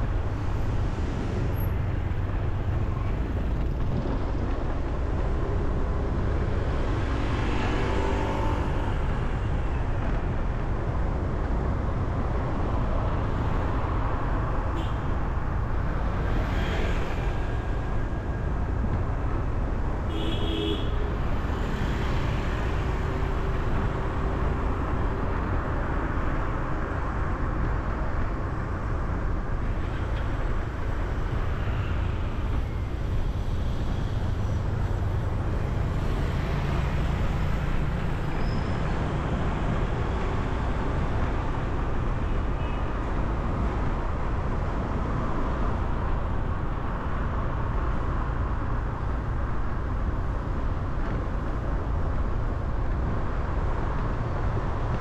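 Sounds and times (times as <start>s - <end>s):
city traffic road noise: 0.0s - 55.0s.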